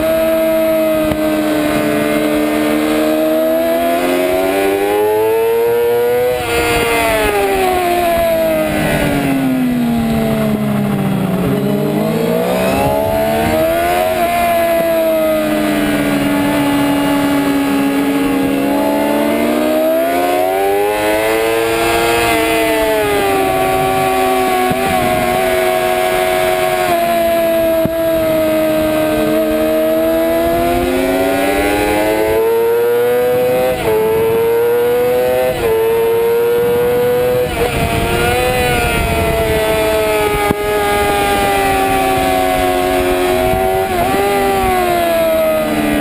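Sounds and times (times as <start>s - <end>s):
motorcycle engine revving hard: 0.0s - 46.0s.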